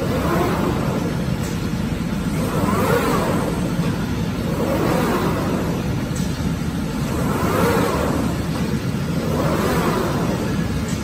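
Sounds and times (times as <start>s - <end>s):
low machine rumble: 0.0s - 11.0s
machine drive motors whining: 0.0s - 11.0s.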